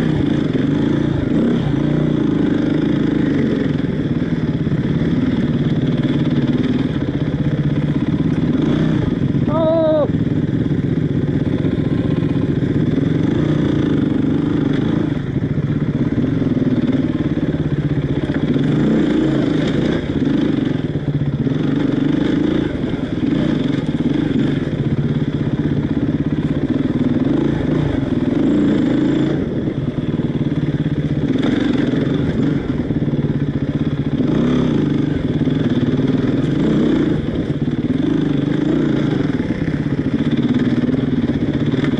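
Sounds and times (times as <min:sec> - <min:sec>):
dirt bike engine at low revs: 0:00.0 - 0:41.9.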